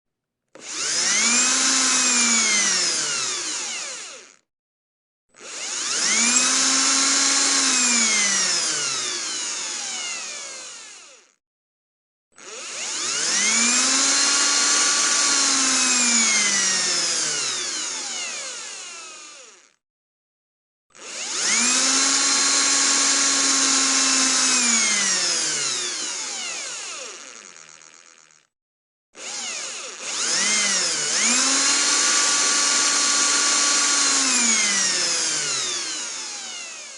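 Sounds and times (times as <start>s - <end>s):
electric drill whining: 0.5s - 4.5s, 5.4s - 11.4s, 12.4s - 19.8s, 20.9s - 28.6s, 29.2s - 36.9s.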